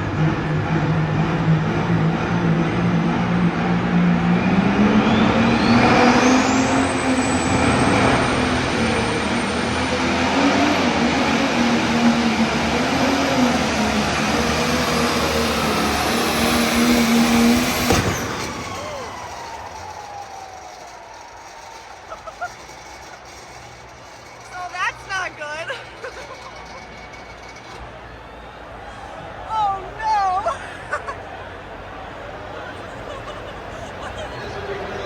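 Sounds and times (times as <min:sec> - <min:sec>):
turbo whine: 0:00.0 - 0:29.4
diesel engine at full power: 0:00.0 - 0:35.0.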